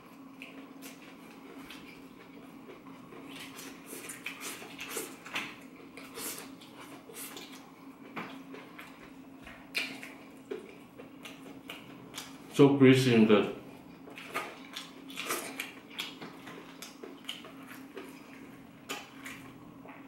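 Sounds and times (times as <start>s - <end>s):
chewing crunchy fried food: 0.0s - 12.6s, 13.6s - 20.0s
faint steady hum: 0.0s - 20.0s.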